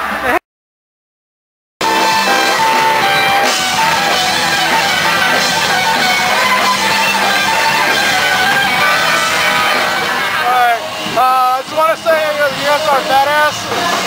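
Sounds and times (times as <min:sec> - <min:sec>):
electric guitar: 0:01.8 - 0:14.0
ska band playing live: 0:01.8 - 0:14.0.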